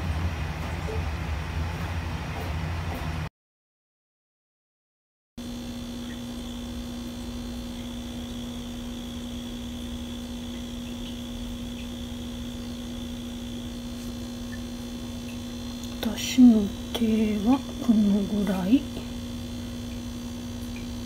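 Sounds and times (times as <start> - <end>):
steady electrical hum: 0.0 - 3.3, 5.4 - 21.0.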